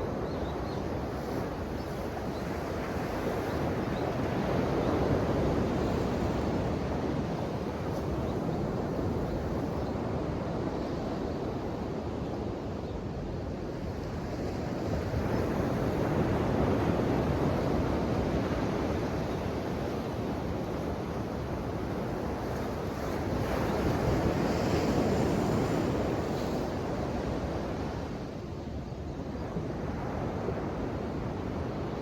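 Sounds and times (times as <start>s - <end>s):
ocean waves washing on shore: 0.0s - 32.0s.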